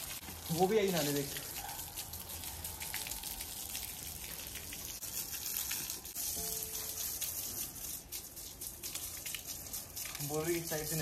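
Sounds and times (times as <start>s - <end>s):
hose spraying water on animal: 0.0s - 11.0s.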